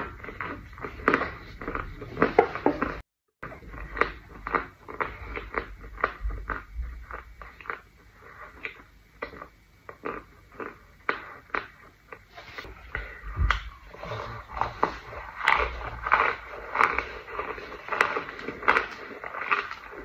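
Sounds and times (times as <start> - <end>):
chewing crunchy powder brick: 0.0 - 20.0.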